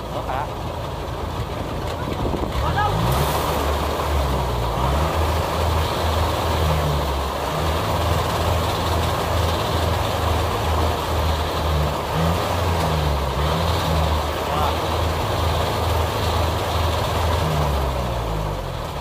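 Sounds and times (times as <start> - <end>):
diesel engine hum: 0.0 - 19.0
threshing machinery rushing: 2.1 - 18.0.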